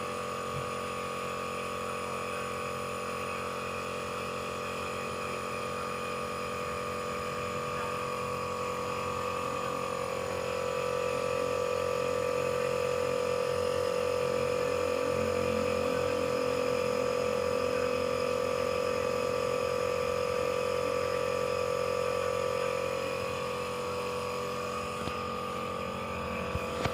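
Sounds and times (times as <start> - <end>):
nebulizer motor hum: 0.0 - 26.9.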